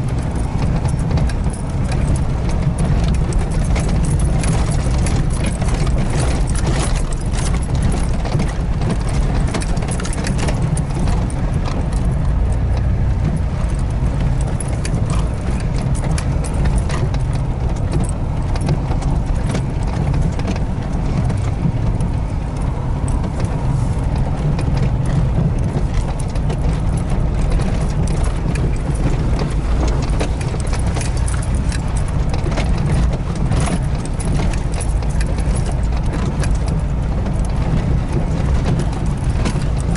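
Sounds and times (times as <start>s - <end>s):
engine and road rumble: 0.0s - 39.9s
knocks and rattles: 0.0s - 39.9s.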